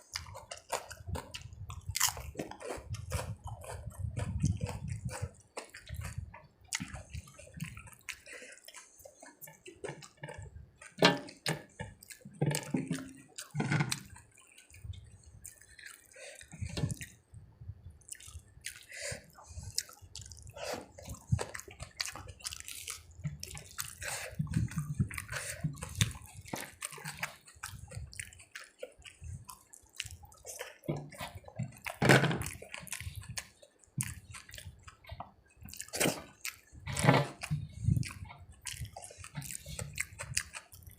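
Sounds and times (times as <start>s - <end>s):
wet eating smacks: 0.0s - 17.2s, 18.0s - 40.9s.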